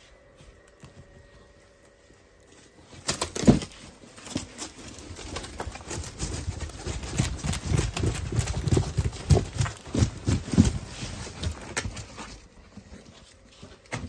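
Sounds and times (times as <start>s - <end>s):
rope toys rummaged in cardboard box: 0.6s - 14.0s.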